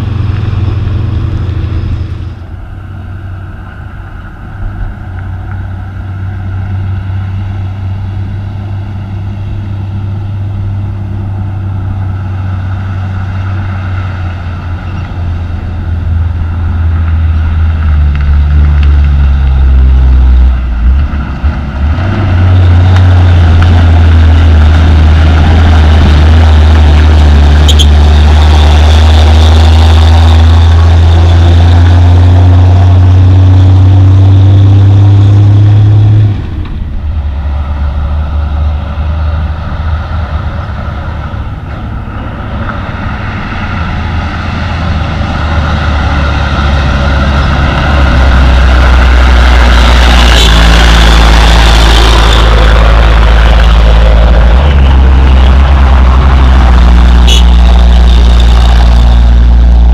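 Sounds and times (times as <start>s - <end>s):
diesel dump truck engine: 0.0s - 59.9s
distant trucks rumbling: 0.0s - 59.9s.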